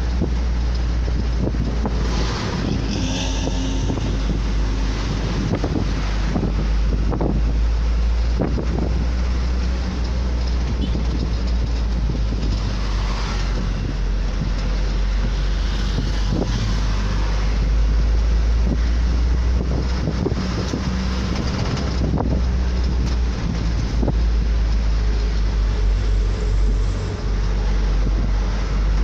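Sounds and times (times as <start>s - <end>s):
road traffic noise: 0.0s - 29.0s
wind buffeting microphone: 0.0s - 29.0s.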